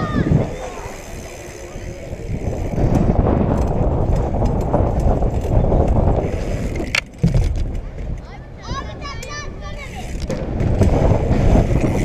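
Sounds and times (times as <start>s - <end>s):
bmx tyre rumble: 0.0s - 12.0s.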